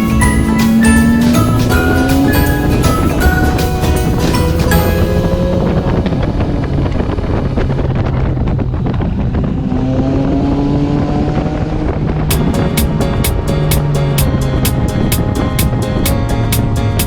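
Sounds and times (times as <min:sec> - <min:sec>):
scooter engine accelerating: 0:00.0 - 0:17.0.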